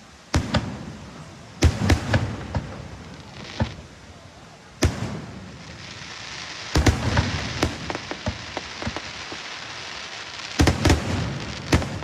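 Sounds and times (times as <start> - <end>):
fireworks crackling: 0.0 - 12.0
fireworks bangs: 0.3 - 12.0.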